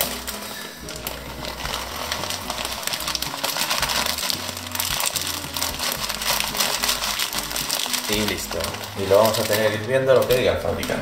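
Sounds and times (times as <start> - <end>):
pot of broth boiling: 0.0 - 11.0.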